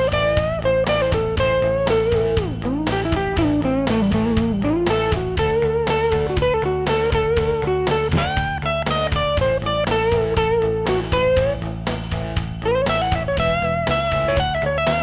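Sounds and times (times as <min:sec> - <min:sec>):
electric guitar rock lead: 0:00.0 - 0:15.0
held low notes: 0:00.0 - 0:15.0
regular beat of sharp attacks: 0:00.0 - 0:15.0.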